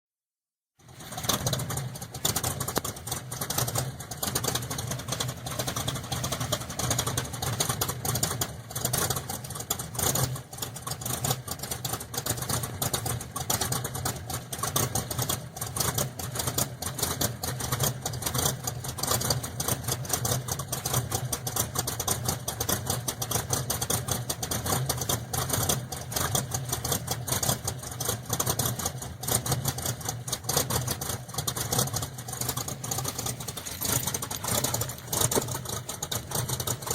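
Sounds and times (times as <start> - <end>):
car engine idling: 0.8 - 36.9.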